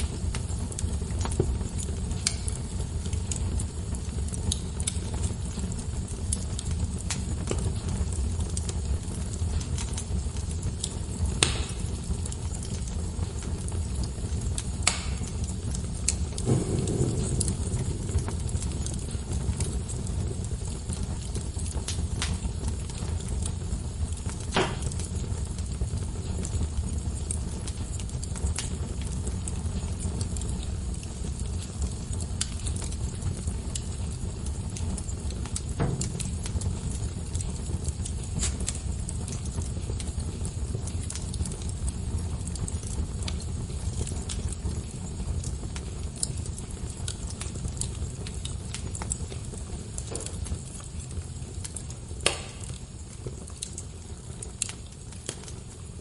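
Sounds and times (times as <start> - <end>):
loud fire pops: 0.0 - 56.0
wood fire crackling: 0.0 - 56.0.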